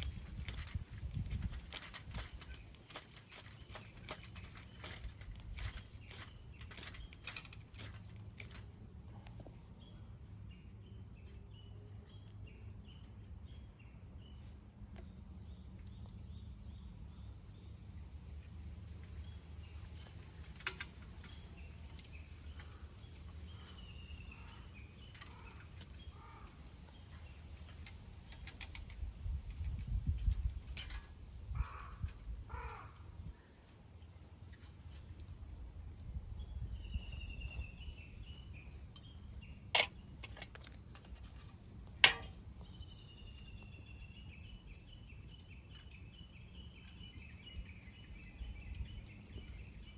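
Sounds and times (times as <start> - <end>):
birds chirping: 0.0 - 17.8, 18.4 - 33.8, 36.4 - 41.5, 42.1 - 49.9.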